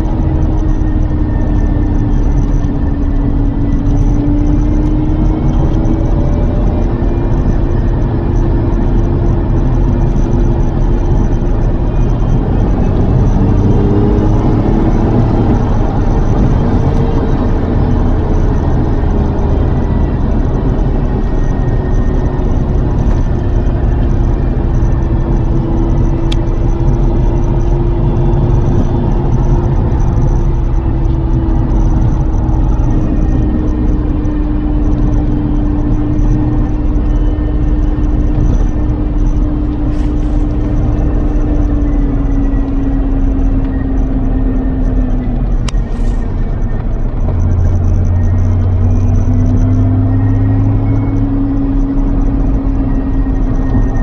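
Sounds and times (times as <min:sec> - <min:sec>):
car engine running: 0:00.0 - 0:54.0
road rumble: 0:00.0 - 0:54.0.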